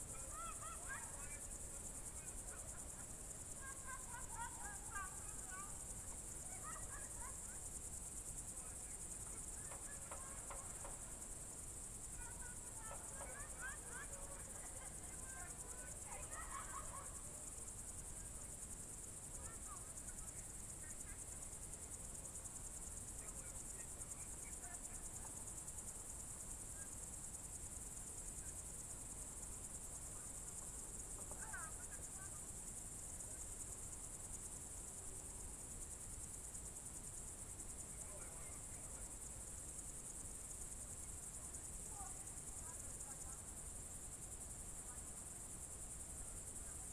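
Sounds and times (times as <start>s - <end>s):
crickets trilling: 0.0s - 46.9s.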